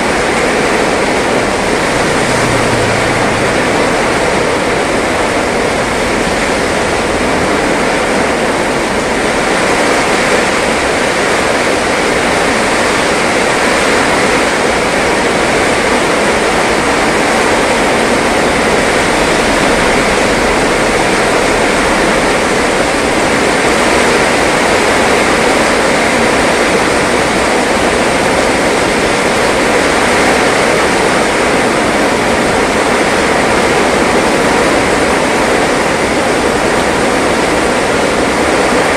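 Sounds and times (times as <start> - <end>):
heavy rain on road: 0.0 - 38.9
truck driving through water: 0.0 - 38.9.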